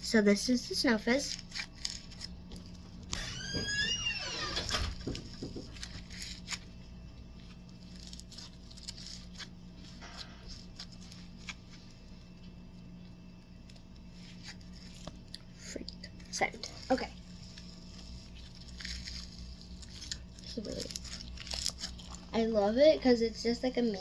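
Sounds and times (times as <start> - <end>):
slime squishing with crackles: 0.0 - 4.4, 5.0 - 24.0.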